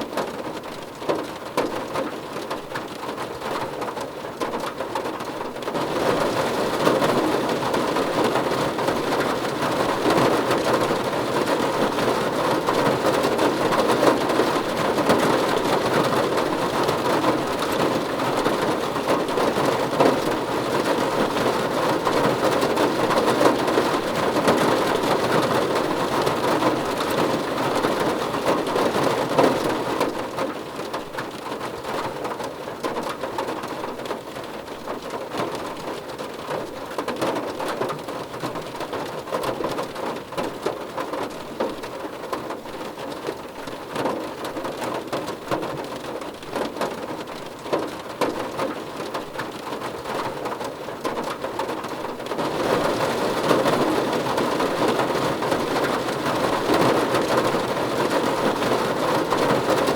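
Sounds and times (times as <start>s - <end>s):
rain drumming on car roof: 0.0s - 59.9s.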